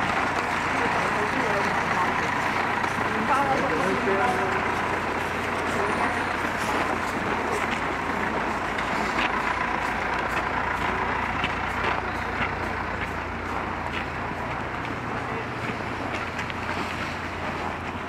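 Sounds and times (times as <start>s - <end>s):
footsteps crunching on snow: 0.0s - 18.0s
large vehicle engine running: 0.0s - 18.0s.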